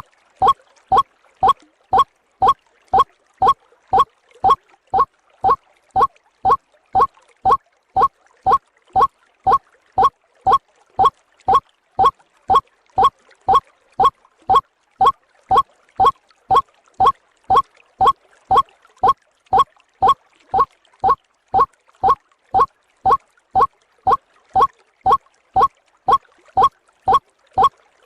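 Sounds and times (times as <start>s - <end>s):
waterhen call: 0.0s - 27.8s.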